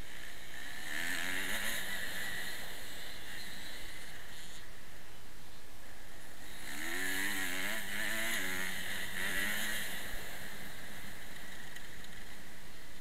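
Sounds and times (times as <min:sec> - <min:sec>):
motorcycle engine revving: 0:00.0 - 0:04.8, 0:05.9 - 0:13.0.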